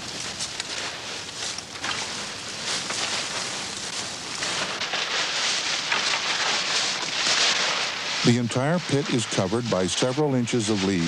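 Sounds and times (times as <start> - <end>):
dry leaves rustling and crackling: 0.0 - 11.0.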